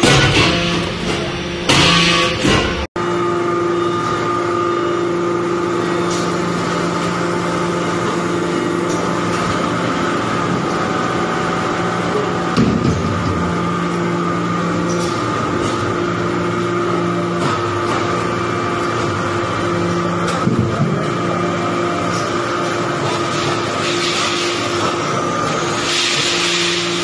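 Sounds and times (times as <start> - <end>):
hydraulic press machine hum: 0.0 - 27.0.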